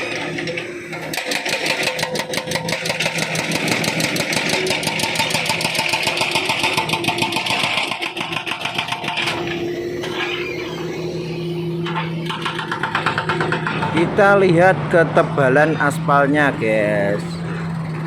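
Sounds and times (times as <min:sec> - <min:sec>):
hydraulic breaker hammering asphalt: 0:00.0 - 0:16.8
excavator engine running: 0:00.0 - 0:18.0.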